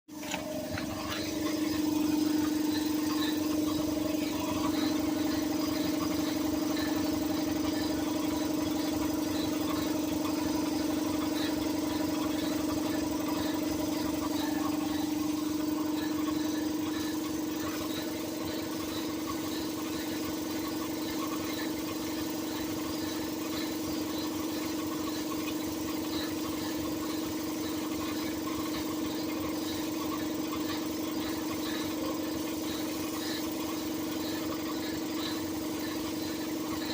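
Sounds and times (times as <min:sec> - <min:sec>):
compressor humming: 0:00.1 - 0:36.9.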